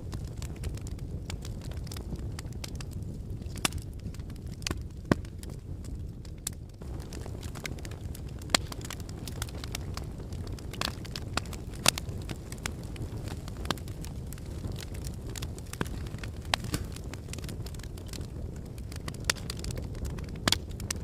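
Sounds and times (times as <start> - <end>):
flames rumbling: 0.0 - 21.0
logs crackling and popping: 0.0 - 21.0.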